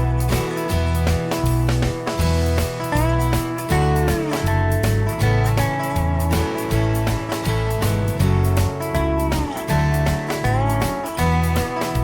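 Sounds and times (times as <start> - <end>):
country music with guitar: 0.0 - 12.0
steady bass line: 0.0 - 12.0.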